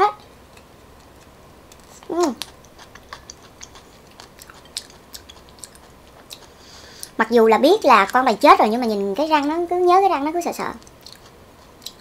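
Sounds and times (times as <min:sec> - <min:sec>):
wet chewing and crunching: 0:00.5 - 0:09.6, 0:10.8 - 0:12.0.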